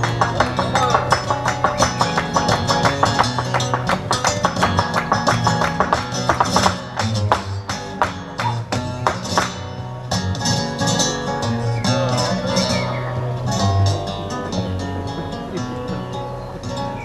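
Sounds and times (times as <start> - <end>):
flamenco acoustic guitar: 0.0 - 17.0.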